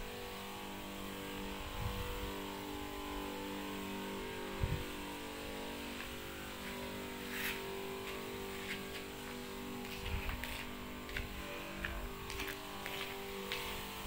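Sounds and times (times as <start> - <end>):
sprayer pump humming: 0.0 - 14.0.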